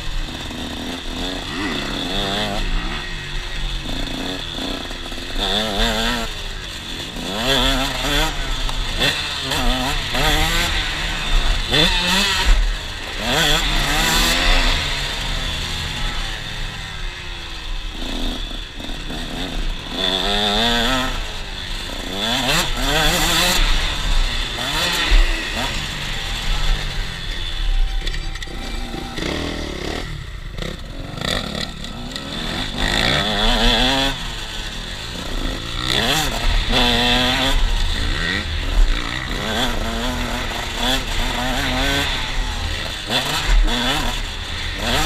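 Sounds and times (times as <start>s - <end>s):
two-stroke engine revving: 0.0s - 45.0s.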